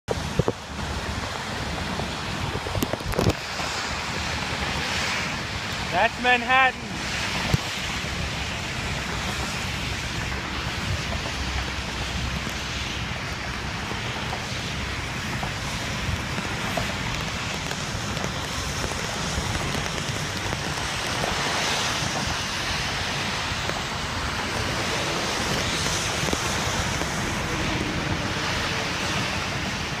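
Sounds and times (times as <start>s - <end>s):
wind: 0.0s - 30.0s
rain: 0.1s - 30.0s.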